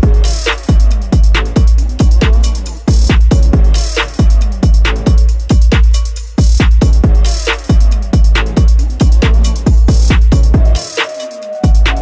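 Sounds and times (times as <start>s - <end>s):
steady sub-bass: 0.0s - 10.9s, 11.6s - 12.0s.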